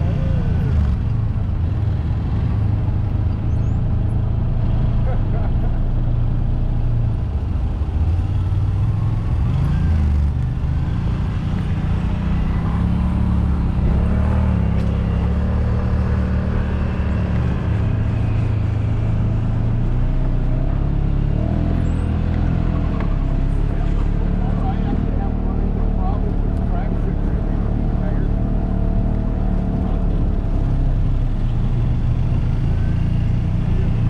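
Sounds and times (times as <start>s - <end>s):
utv engine running: 0.0s - 34.0s.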